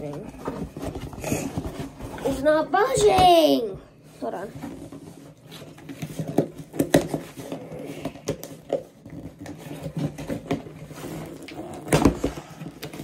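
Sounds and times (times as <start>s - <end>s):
cardboard scraping and rustling: 0.0s - 2.6s, 4.2s - 13.0s.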